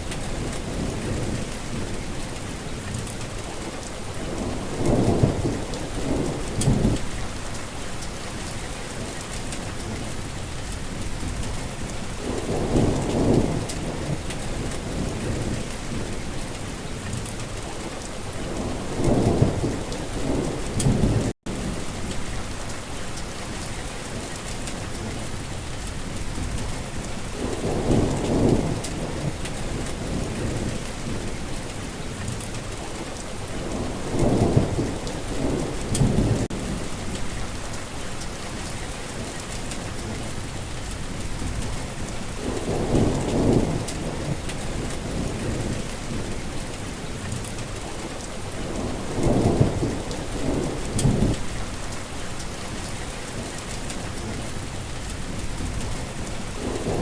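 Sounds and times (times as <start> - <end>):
heavy rain falling: 0.0 - 57.0
low thunder rumbling: 0.0 - 57.0.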